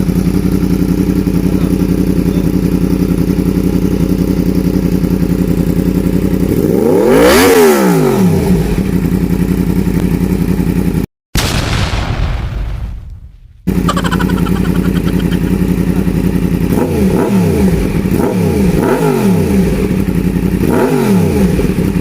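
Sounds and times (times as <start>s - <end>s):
motorcycle engine idling: 0.0s - 11.0s, 13.7s - 22.0s.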